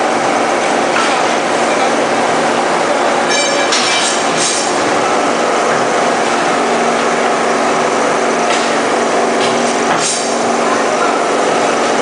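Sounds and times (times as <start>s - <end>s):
industrial machinery hum: 0.0s - 12.0s.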